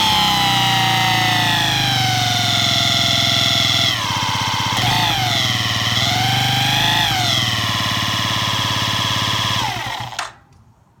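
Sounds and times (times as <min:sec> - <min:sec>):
scooter engine with whine: 0:00.0 - 0:10.5.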